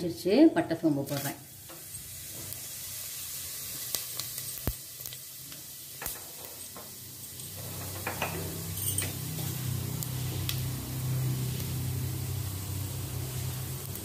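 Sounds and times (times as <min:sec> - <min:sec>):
spices sizzling in hot oil: 0:00.0 - 0:14.0
oil popping and crackling: 0:01.0 - 0:14.0.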